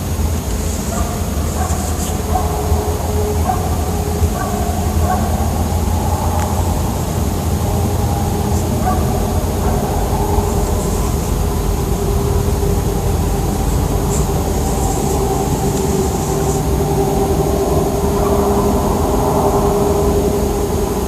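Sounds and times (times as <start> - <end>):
low engine-like drone: 0.0 - 21.0.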